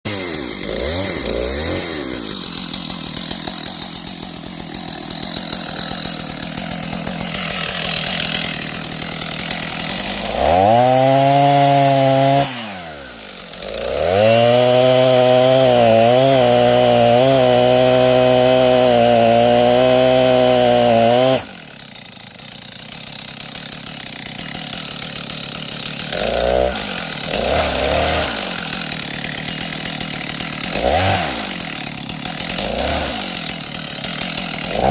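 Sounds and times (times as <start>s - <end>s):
two-stroke chainsaw revving: 0.1s - 34.9s.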